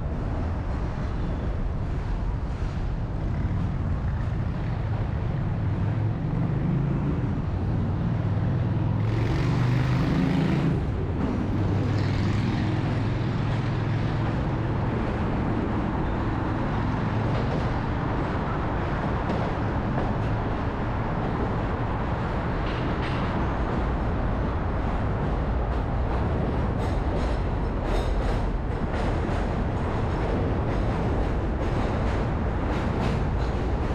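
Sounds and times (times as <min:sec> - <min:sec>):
road traffic passing: 0:00.0 - 0:33.9.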